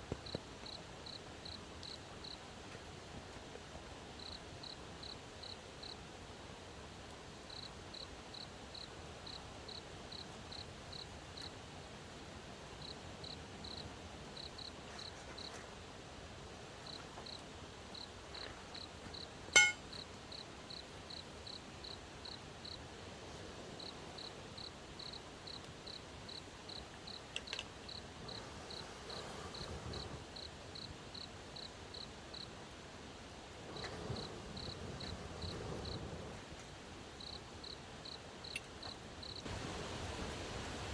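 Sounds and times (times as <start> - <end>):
crickets chirping: 0.0 - 11.6, 12.8 - 15.7, 16.7 - 40.9.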